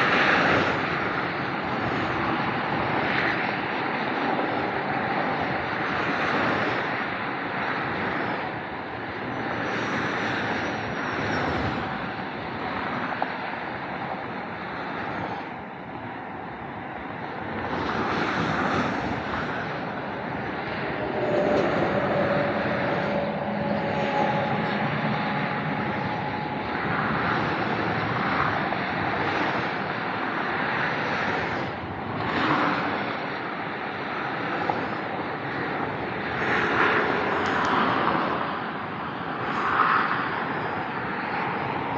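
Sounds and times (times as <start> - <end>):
motorway traffic rush: 0.0 - 41.9
vehicles passing: 0.0 - 41.9.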